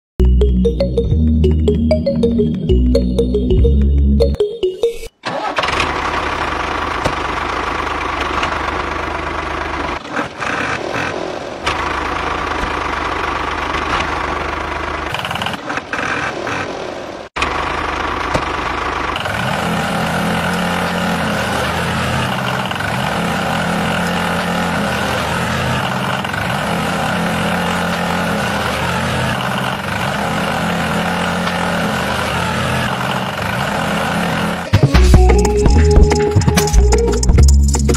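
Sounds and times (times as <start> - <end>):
tractor engine running: 0.2 - 37.9.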